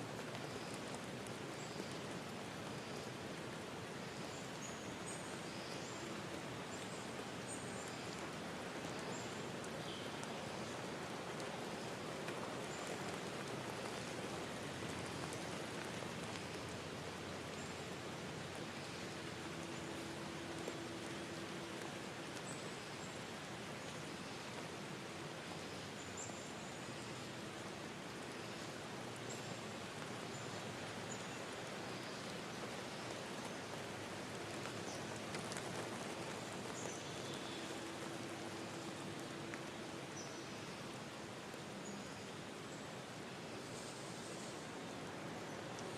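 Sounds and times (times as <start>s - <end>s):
stream rushing and babbling: 0.0s - 45.9s.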